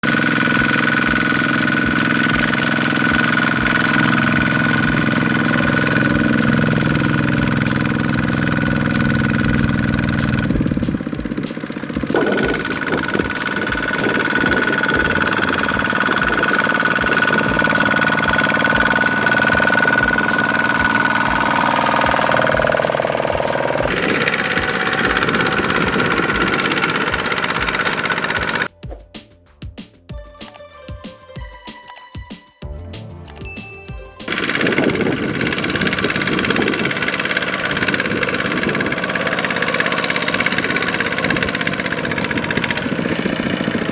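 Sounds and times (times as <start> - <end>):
diesel tractor engine chugging: 0.0 - 28.8, 34.3 - 43.9
high whine: 0.0 - 43.9.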